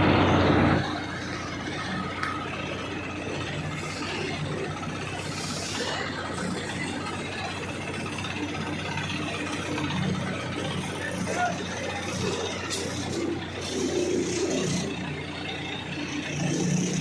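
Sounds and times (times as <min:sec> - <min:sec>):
crane engine humming: 0:00.0 - 0:17.0.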